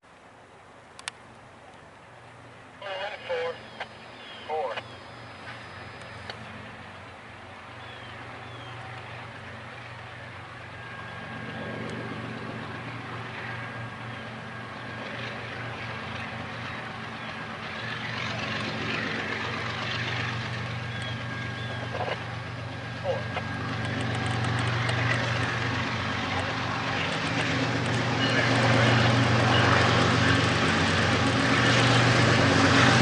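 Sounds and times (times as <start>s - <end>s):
rumbling train noise: 0.0s - 33.0s
diesel locomotive engine humming: 0.1s - 33.0s.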